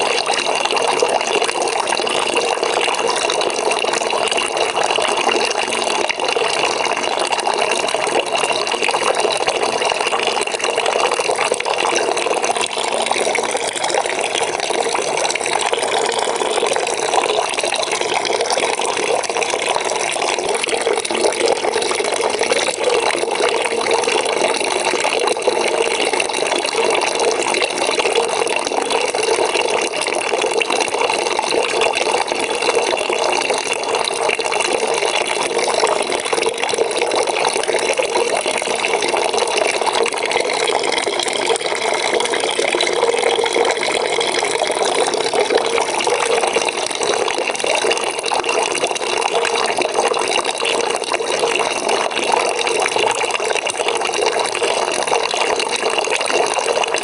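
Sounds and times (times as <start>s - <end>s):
water running into a bucket: 0.0s - 57.0s.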